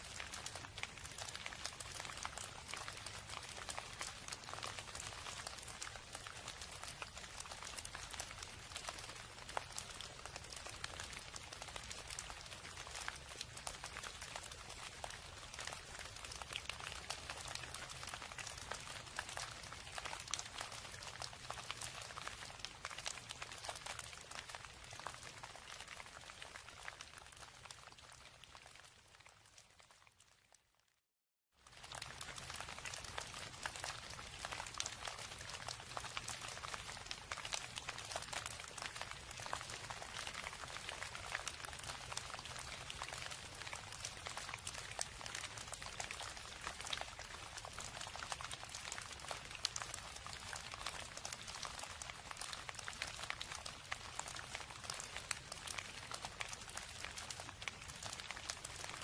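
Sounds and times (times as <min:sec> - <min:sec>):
rain pattering on hard surface: 0:00.0 - 0:30.8, 0:31.6 - 0:59.0.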